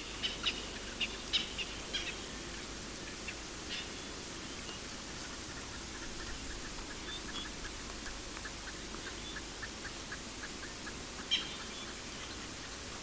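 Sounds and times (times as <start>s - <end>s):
birds chirping: 0.0s - 13.0s
steady background hiss: 0.0s - 13.0s.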